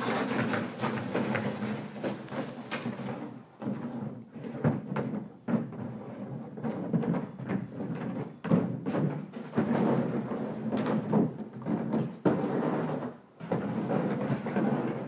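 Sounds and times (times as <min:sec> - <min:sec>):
hollow thumps: 0:00.0 - 0:15.0
plastic pool scraping on concrete: 0:00.0 - 0:15.0.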